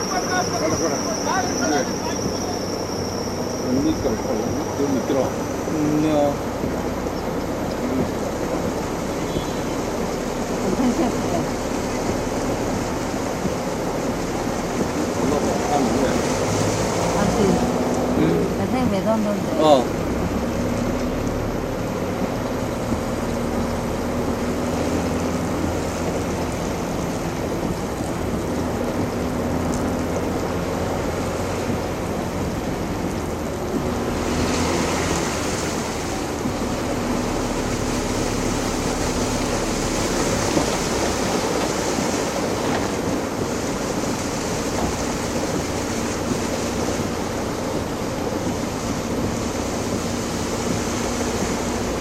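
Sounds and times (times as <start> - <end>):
water rushing: 0.0 - 52.0.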